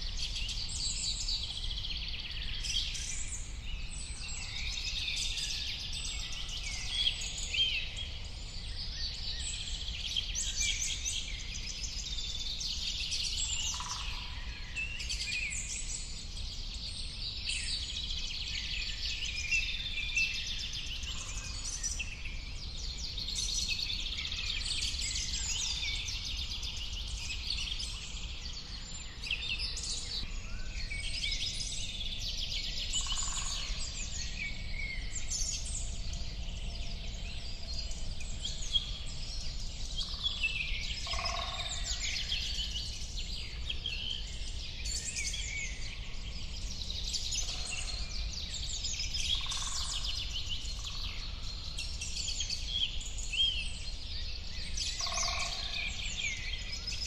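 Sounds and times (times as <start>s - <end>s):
birds chirping and singing: 0.2s - 57.0s.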